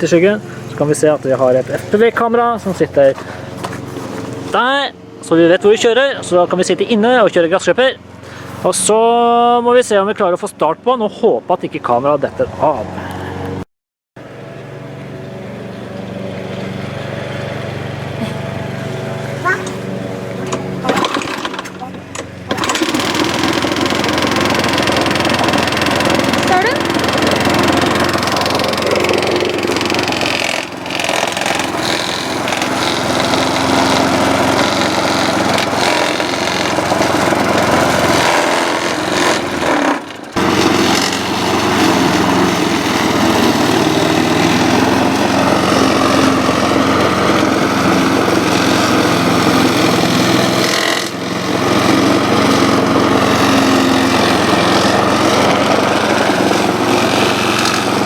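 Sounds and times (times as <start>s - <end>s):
lawn mower engine running: 0.0s - 10.8s, 11.6s - 13.6s, 14.2s - 58.0s.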